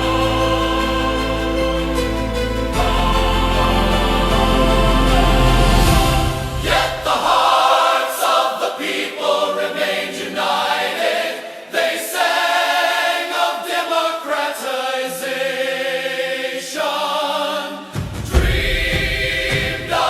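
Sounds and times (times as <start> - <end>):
choir singing sustained notes: 0.0 - 20.0.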